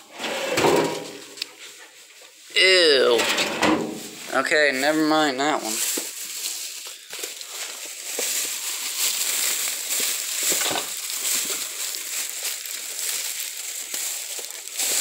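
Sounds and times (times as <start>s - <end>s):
plastic crinkling and rustling: 0.7s - 15.0s.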